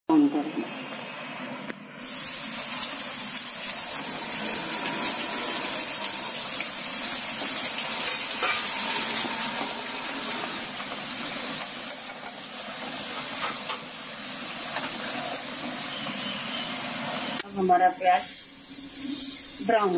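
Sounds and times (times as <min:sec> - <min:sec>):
onions deep-frying in oil: 0:00.8 - 0:19.9.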